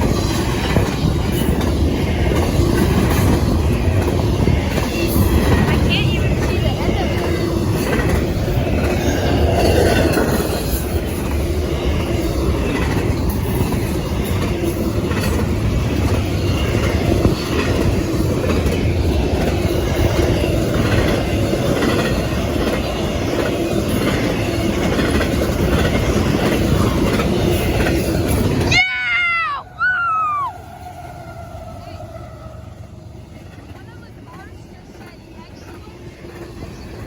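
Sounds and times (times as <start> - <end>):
clickety-clack over rail joints: 0.0 - 28.8, 31.2 - 37.0
train wheels rumbling on rails: 0.0 - 37.0.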